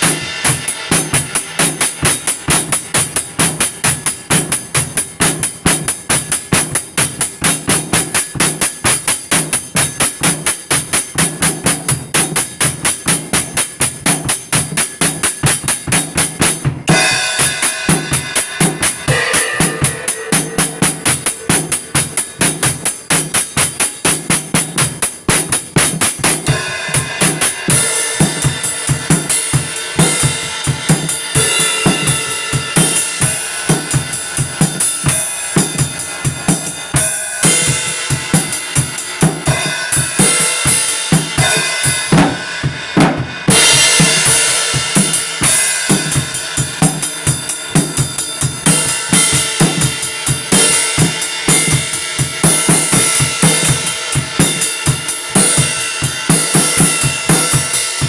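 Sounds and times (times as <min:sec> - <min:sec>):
drum kit playing a beat: 0:00.0 - 0:58.0.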